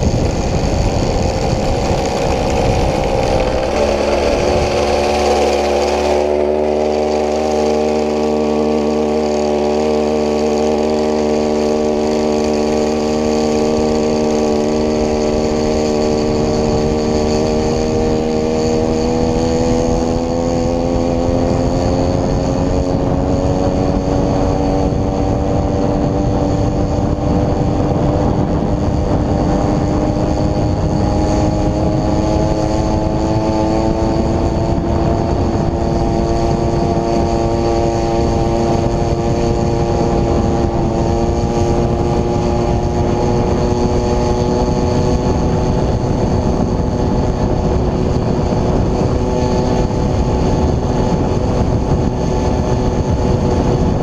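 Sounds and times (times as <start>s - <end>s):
chainsaw engine running hard: 0.0s - 54.0s
wind noise on microphone: 0.0s - 54.0s.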